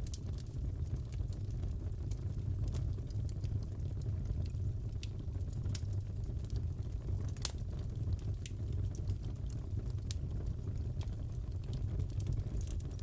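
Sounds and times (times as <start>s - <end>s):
low fire rumble: 0.0s - 13.0s
wood fire crackling: 0.0s - 13.0s.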